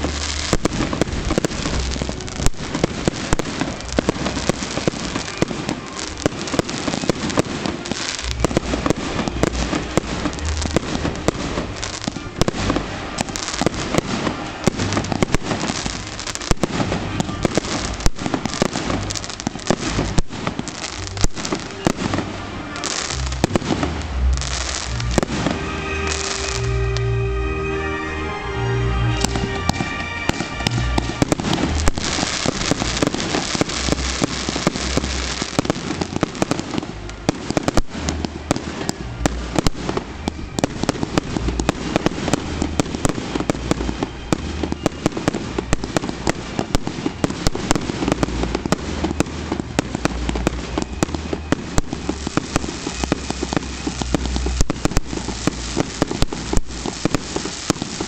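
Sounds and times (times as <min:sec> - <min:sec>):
fireworks bangs and crackle: 0:00.0 - 0:58.0
music: 0:00.0 - 0:58.0.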